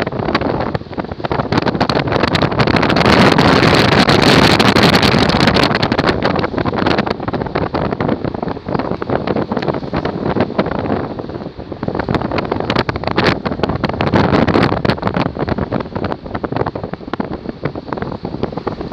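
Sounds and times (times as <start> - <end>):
moving vehicle running noise: 0.0 - 18.9
wind buffeting microphone: 0.0 - 18.9.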